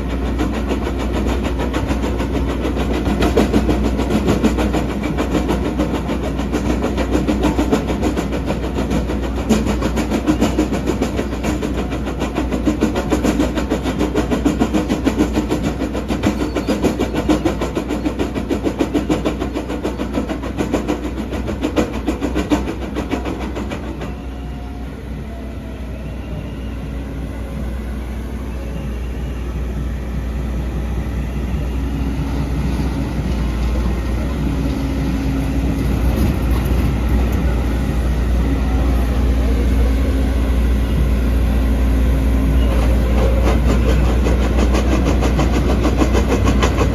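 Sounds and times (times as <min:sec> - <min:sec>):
excavator running with rattling: 0:00.0 - 0:46.9.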